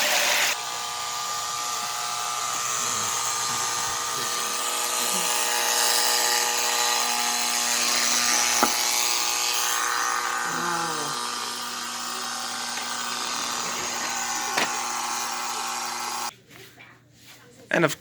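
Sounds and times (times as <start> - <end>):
toy train motor whine: 0.0 - 16.3.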